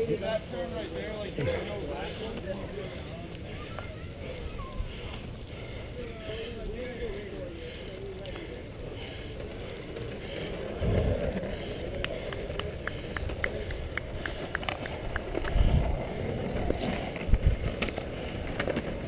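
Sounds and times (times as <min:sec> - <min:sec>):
longboard wheels rolling on concrete: 0:00.0 - 0:19.0.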